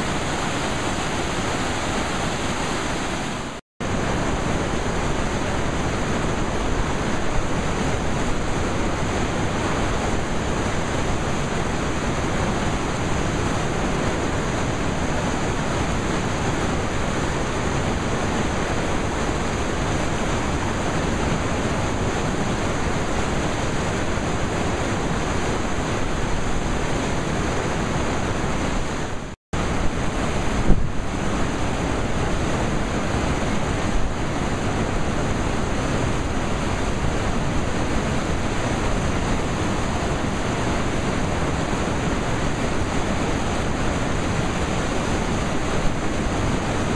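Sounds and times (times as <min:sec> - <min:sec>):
white water rushing over rocks: 0:00.0 - 0:46.9.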